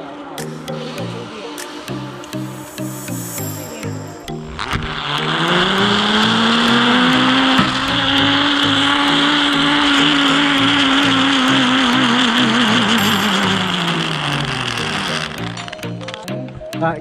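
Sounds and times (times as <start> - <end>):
background music: 0.0 - 17.0
zip-line pulleys whining on cable: 2.3 - 16.3.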